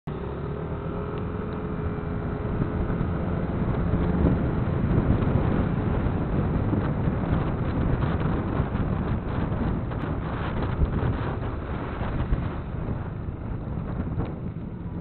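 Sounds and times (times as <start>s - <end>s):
wind buffeting microphone: 0.1s - 15.0s.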